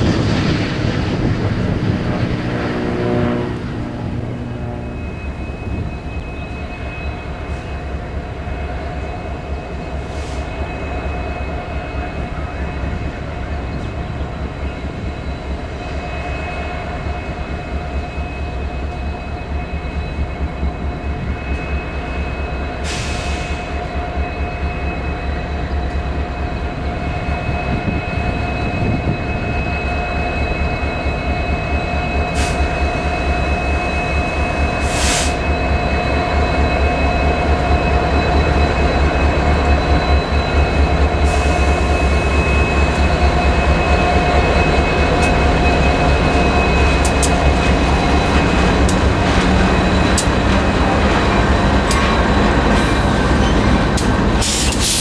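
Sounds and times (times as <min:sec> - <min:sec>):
diesel locomotive rumble: 0:00.0 - 0:55.0
steady high tone: 0:02.4 - 0:54.4.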